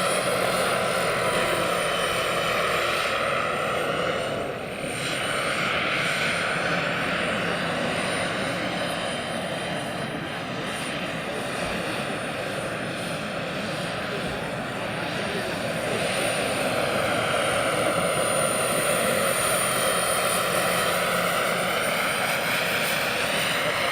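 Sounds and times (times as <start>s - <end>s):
high turbine whine: 0.0s - 23.9s
model helicopter rotor rushing: 0.0s - 23.9s.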